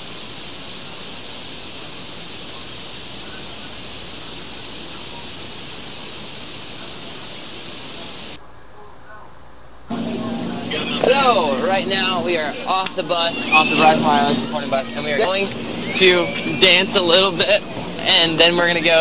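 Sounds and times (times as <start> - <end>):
high-pitched hiss: 0.0 - 8.4, 9.9 - 19.0.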